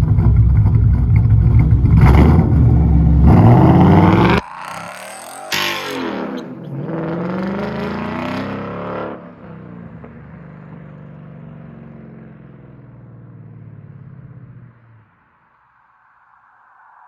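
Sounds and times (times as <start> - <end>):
car engine revving: 0.0 - 15.1.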